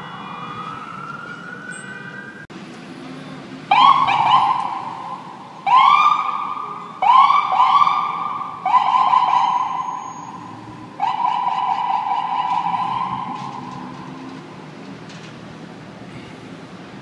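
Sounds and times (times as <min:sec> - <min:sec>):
emergency siren blasts: 0:00.0 - 0:02.5, 0:03.7 - 0:14.9.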